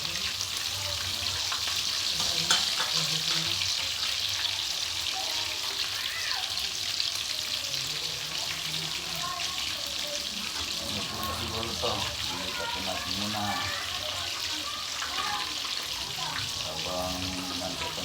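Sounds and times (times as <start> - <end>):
chicken frying in hot oil: 0.0 - 18.0.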